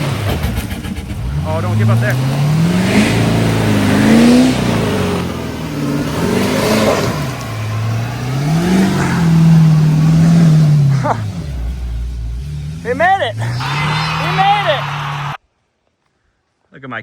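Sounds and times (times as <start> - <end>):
truck engine revving: 0.0 - 15.4.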